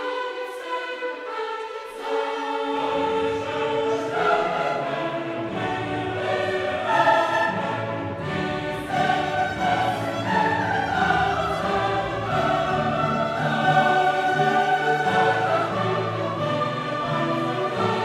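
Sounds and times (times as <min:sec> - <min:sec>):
choir singing with orchestra: 0:00.0 - 0:18.0.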